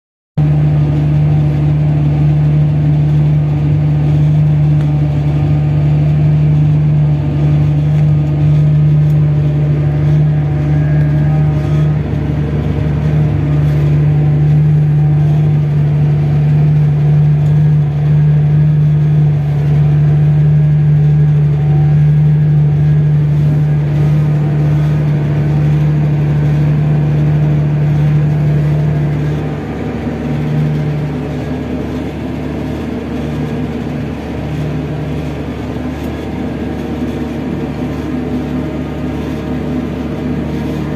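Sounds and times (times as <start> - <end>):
machine noise: 0.4 - 40.9
tractor engine humming: 0.4 - 40.9.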